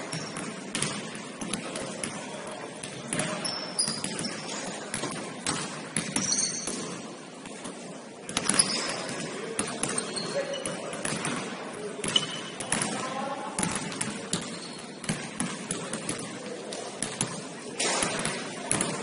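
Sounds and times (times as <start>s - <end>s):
sneakers squeaking: 0.0s - 13.0s, 13.6s - 17.3s
basketball bouncing on gym floor: 0.1s - 7.6s, 8.3s - 16.4s, 17.0s - 19.0s.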